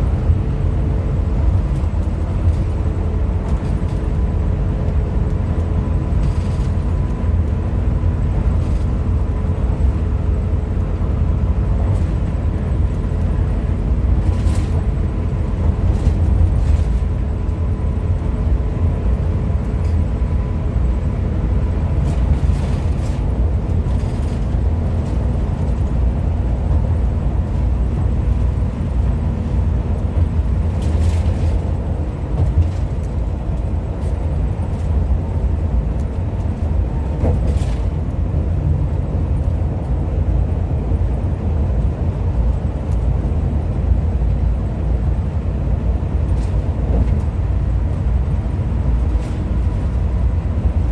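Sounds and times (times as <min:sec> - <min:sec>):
bus engine rumble: 0:00.0 - 0:50.9.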